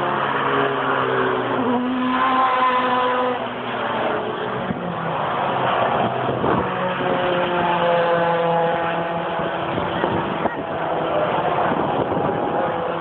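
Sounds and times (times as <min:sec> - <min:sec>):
race cars passing at high revs: 0:00.0 - 0:13.0.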